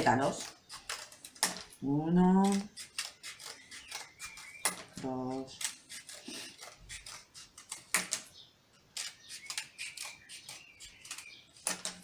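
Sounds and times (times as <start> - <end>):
scissors cutting cardboard: 0.0 - 8.3, 8.9 - 12.0.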